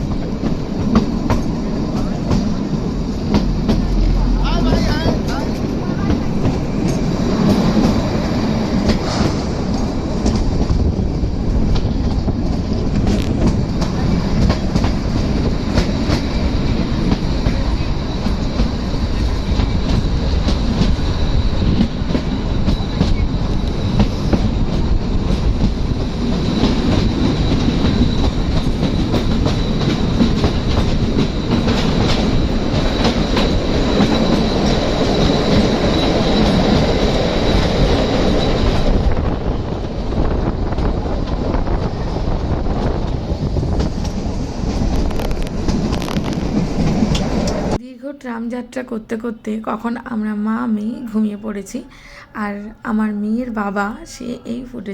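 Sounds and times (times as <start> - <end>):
wheels clicking on rails: 0.0 - 47.8
train rumble: 0.0 - 54.9.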